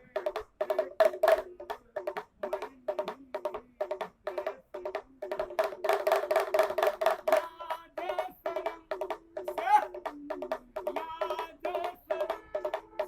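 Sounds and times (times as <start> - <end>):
small hand drum beating: 0.0 - 13.0.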